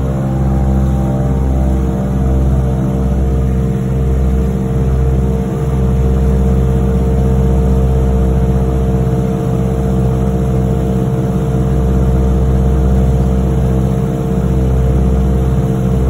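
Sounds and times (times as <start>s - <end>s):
propeller airplane engine drone: 0.0s - 16.0s.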